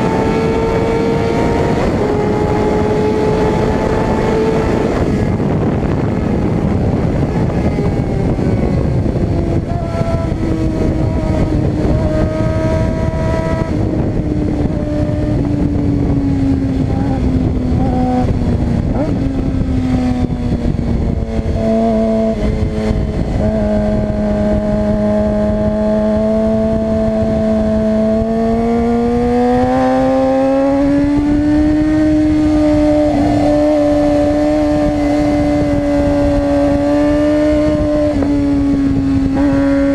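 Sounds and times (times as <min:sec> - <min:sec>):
heavy wind noise: 0:00.0 - 0:39.9
sport bike engine running hard: 0:00.0 - 0:39.9.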